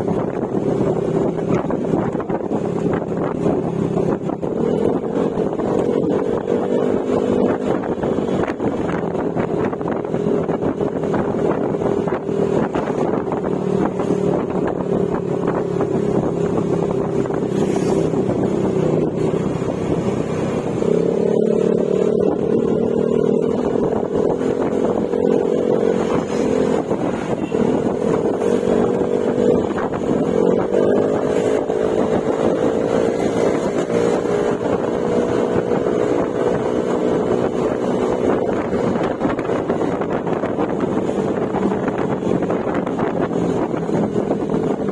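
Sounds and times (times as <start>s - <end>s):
scooter engine running: 0.0s - 44.9s.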